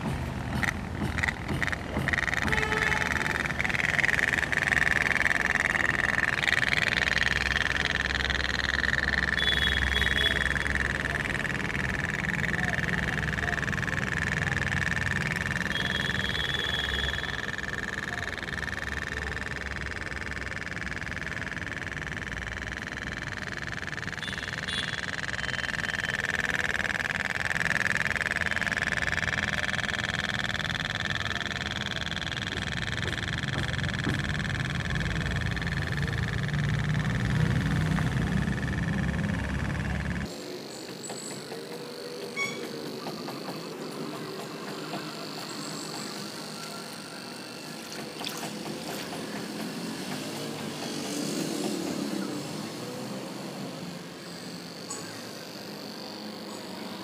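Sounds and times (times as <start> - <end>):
toy steam boat putt-putt rattle: 0.0 - 53.2.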